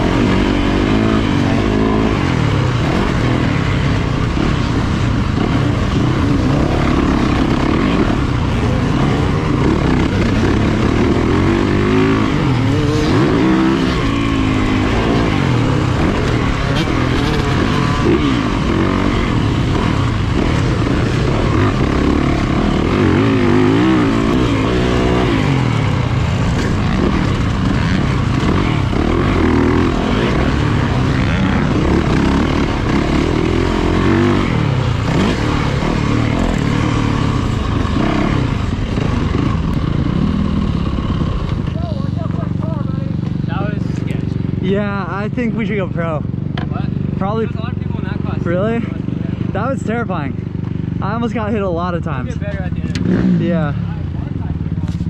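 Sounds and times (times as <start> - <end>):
two-stroke dirt bike engine: 0.0 - 55.0.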